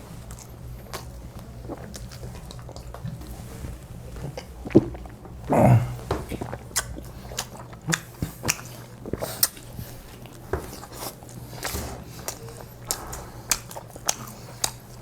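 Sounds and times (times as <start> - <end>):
people biting and chewing: 0.0 - 15.0.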